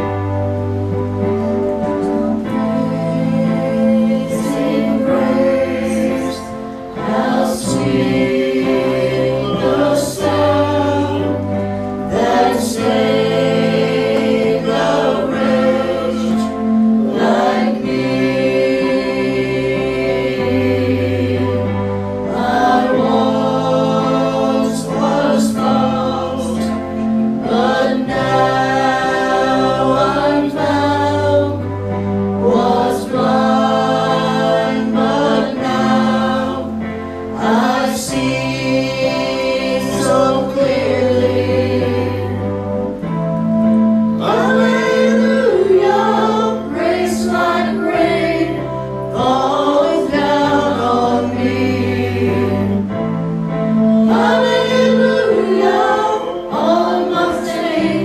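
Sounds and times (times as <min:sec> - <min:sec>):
instrumental accompaniment with bass: 0:00.0 - 0:58.0
vocal group singing: 0:00.0 - 0:58.0.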